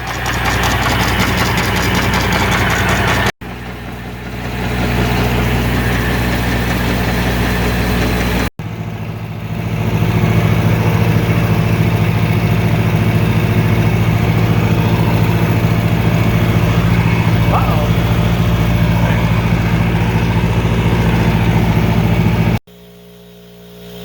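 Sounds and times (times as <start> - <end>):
farm engine running: 0.0 - 23.3.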